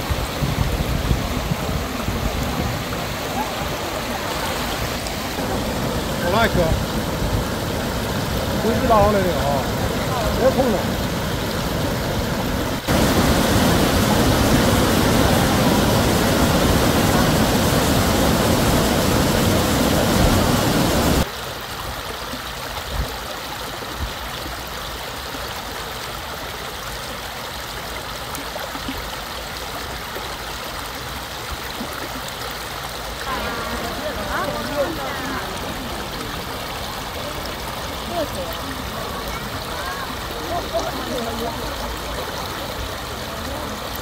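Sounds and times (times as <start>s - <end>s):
stream rushing over rocks: 0.0s - 44.0s.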